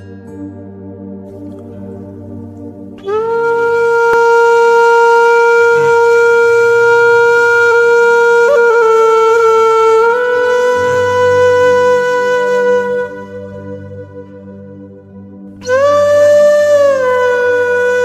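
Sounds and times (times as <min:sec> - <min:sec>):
soft low drone: 0:00.0 - 0:18.0
wind instrument holding long note: 0:01.3 - 0:18.0.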